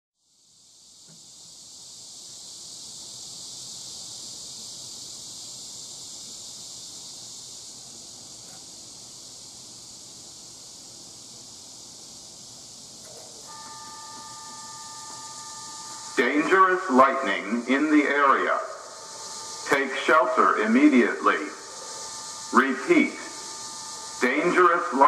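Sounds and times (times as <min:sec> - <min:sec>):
high-pitched insect chorus: 0:00.2 - 0:25.0.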